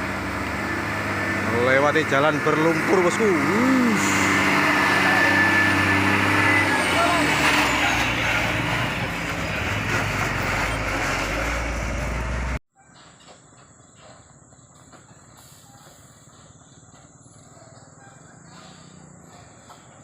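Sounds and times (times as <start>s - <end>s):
truck diesel engine passing: 0.0s - 12.6s, 14.0s - 20.0s.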